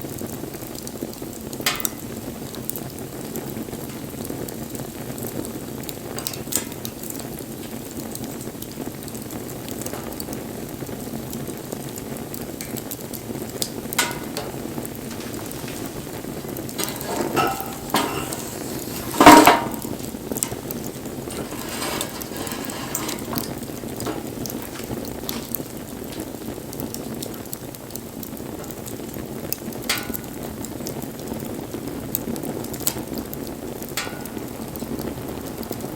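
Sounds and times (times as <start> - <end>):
campfire crackling: 0.0 - 35.9
sharp pops of burning wood: 0.7 - 35.2.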